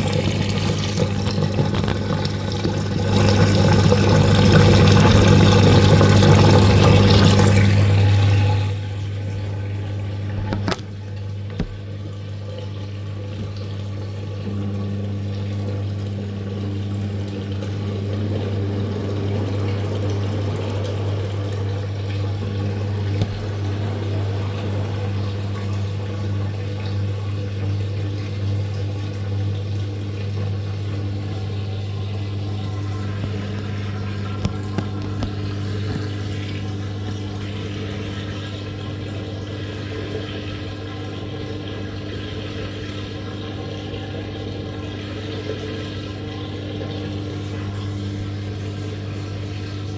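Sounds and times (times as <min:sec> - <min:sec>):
drain pump humming: 0:00.0 - 0:49.9.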